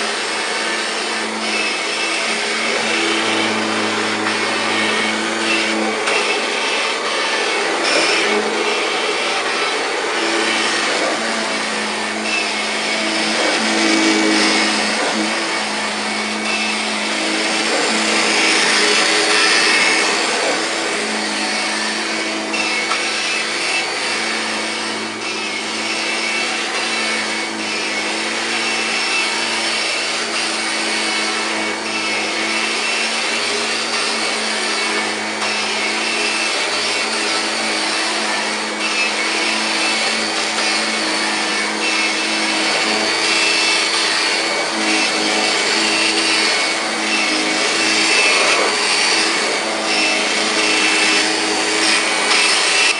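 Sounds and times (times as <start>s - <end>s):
vacuum cleaner running on carpet: 0.0s - 52.9s.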